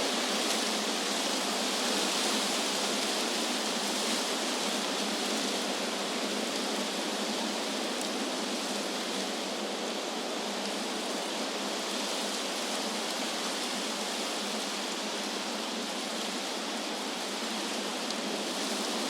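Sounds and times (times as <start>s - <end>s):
wind blowing through trees: 0.0s - 19.0s.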